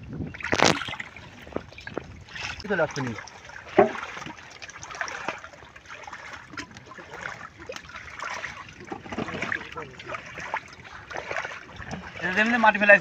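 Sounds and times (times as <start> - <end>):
small water splashes: 0.0 - 13.0
water trickling and lapping: 0.0 - 13.0.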